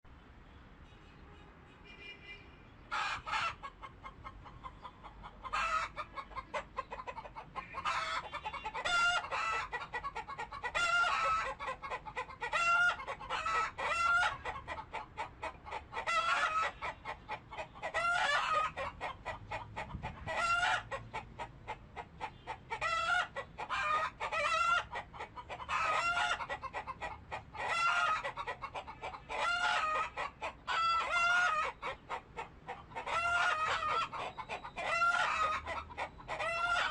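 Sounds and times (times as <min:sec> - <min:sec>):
chickens clucking and cackling: 0:02.7 - 0:36.9.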